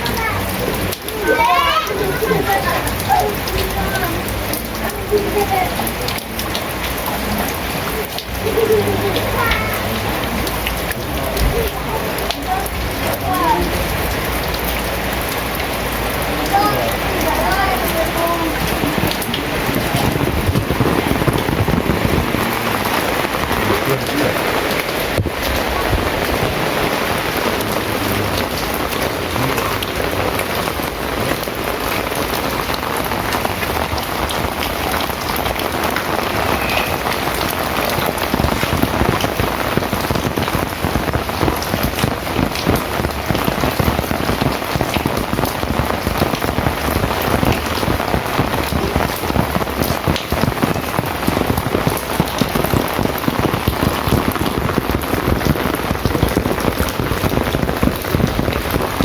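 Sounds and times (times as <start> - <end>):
heavy rain: 0.0 - 59.0
raindrops striking hard surface: 0.0 - 59.0.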